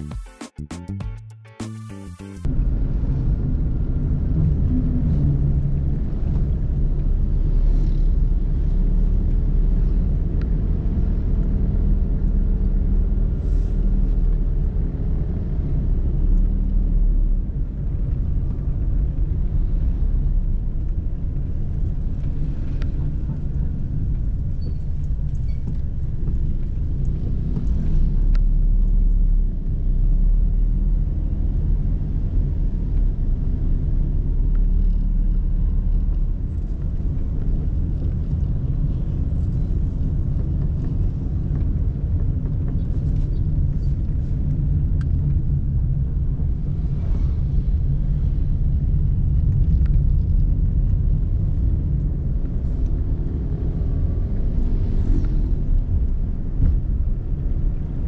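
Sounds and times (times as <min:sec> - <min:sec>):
vehicle engine and tyre rumble: 0:02.4 - 0:58.0.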